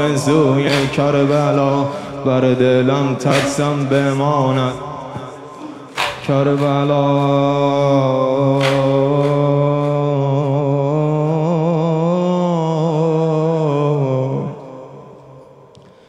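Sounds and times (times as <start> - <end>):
man singing a lament: 0.0 - 15.4.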